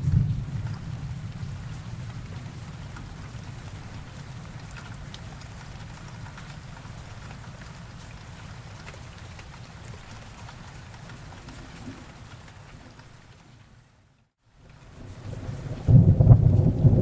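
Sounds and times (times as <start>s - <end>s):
raindrop ticks: 0.0s - 13.7s
steady rainfall: 0.0s - 17.0s.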